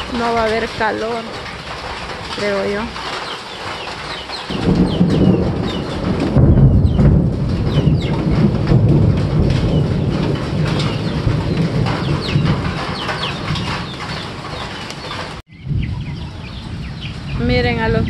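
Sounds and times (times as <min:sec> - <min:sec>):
small birds chirping: 0:00.0 - 0:08.4, 0:09.6 - 0:18.0
heavy rain on vegetation: 0:00.0 - 0:15.5
rolling thunder: 0:00.0 - 0:18.0.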